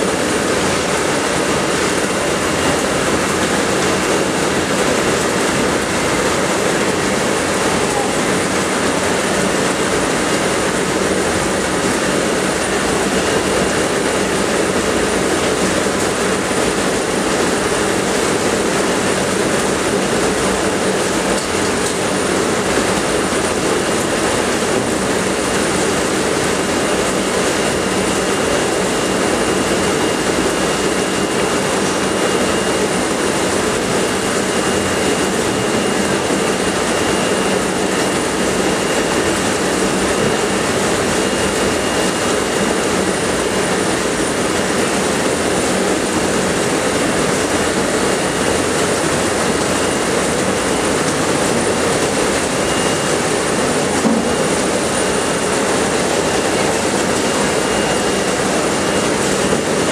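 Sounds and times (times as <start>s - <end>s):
conveyor trolleys rattling on rail: 0.0s - 59.9s.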